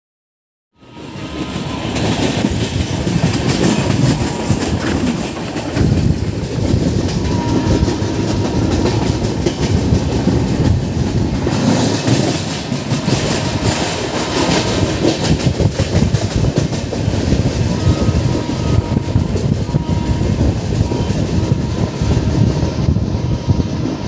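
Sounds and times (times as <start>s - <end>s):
train rumbling: 0.8s - 24.0s
wheels clattering over rail joints: 1.0s - 22.7s.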